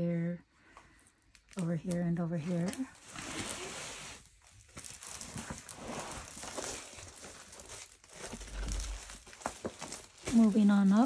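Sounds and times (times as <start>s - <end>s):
plastic film crinkling: 1.0s - 11.0s.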